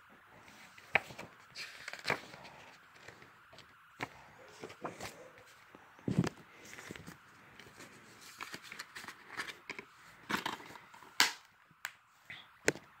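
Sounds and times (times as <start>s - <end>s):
paper rustling: 0.4s - 11.1s.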